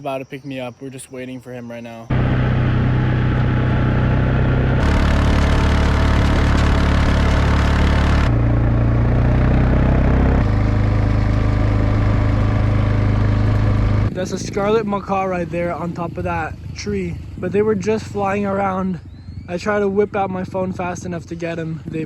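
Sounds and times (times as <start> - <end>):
vehicle engine running: 2.1 - 22.0.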